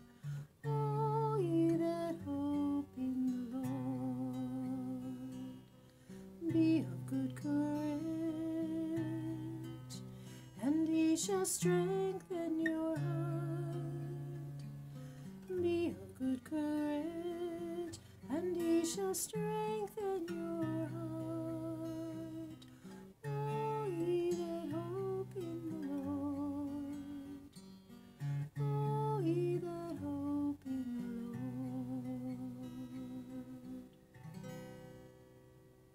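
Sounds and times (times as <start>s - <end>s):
woman singing wordless melody: 0.0s - 34.0s
acoustic guitar: 0.0s - 35.9s.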